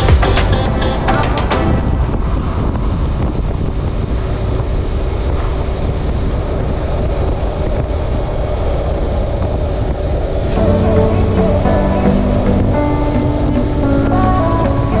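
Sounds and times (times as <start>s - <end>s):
motorcycle engine drone: 0.0s - 15.0s
wind buffeting microphone: 1.4s - 15.0s.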